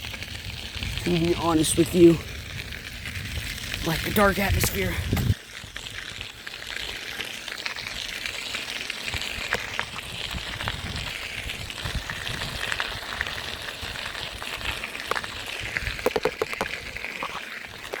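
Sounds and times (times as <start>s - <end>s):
wind rumbling on microphone: 0.0s - 6.4s, 9.1s - 17.9s
bicycle tyres rolling: 0.0s - 18.0s.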